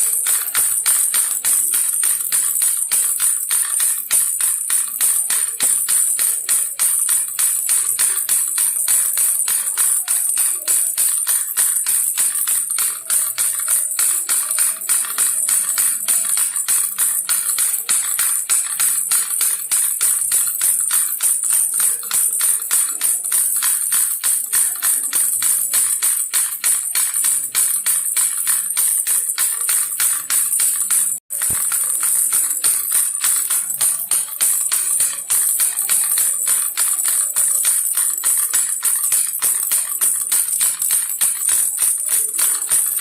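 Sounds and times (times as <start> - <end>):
baby rattle shaken: 0.0 - 43.0.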